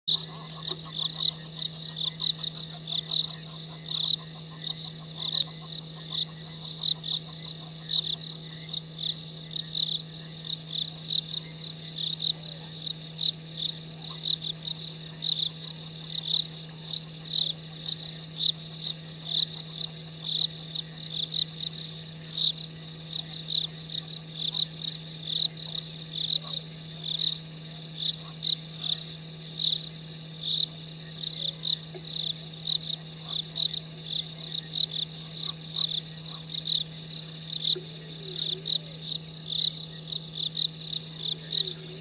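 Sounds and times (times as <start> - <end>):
frogs calling: 0.1 - 42.0
low hum: 0.1 - 42.0.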